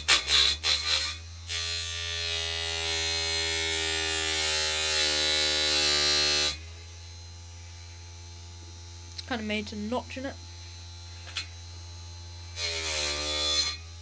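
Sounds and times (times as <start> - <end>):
small saw motor buzzing: 0.0 - 14.0.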